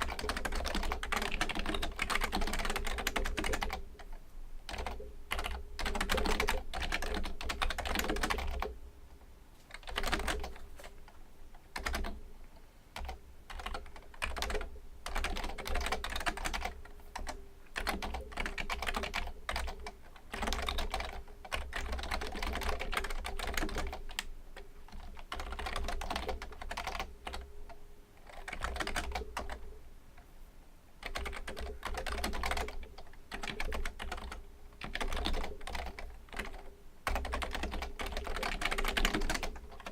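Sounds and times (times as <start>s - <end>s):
keyboard typing: 0.0s - 3.8s, 4.7s - 8.7s, 9.7s - 11.2s, 11.8s - 12.2s, 13.0s - 24.3s, 24.9s - 27.5s, 28.2s - 29.6s, 31.0s - 39.9s.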